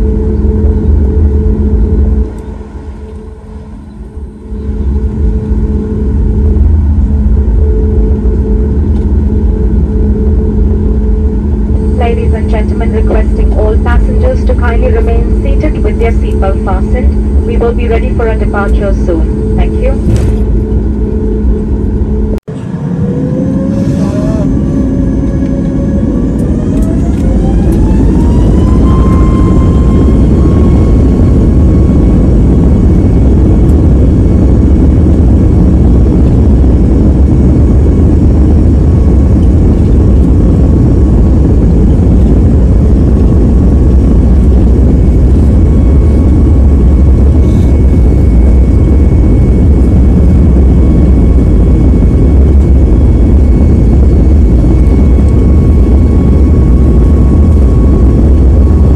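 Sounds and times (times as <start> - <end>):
deep loud engine rumble: 0.0 - 58.9
jet engine whine: 0.0 - 58.9.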